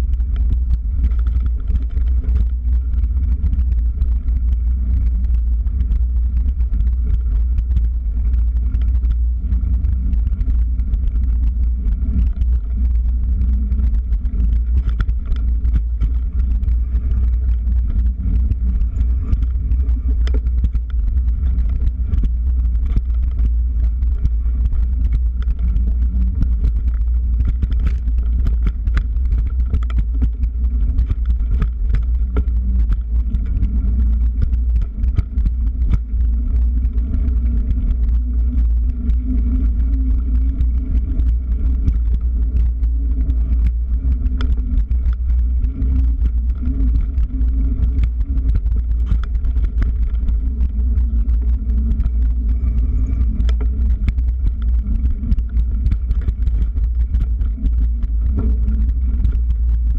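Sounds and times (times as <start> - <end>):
bike clicks and rattles: 0.0 - 59.9
wind rumble on microphone: 0.0 - 59.9.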